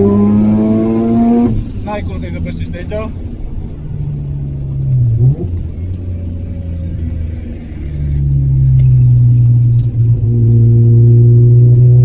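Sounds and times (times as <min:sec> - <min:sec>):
rotary car engine revving: 0:00.0 - 0:12.0.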